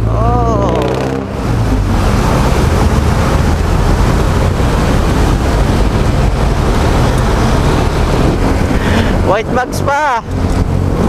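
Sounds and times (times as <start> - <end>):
scooter engine hum: 0.0 - 11.0
wind noise on microphone: 0.6 - 11.0
water spraying from tyres: 0.9 - 11.0.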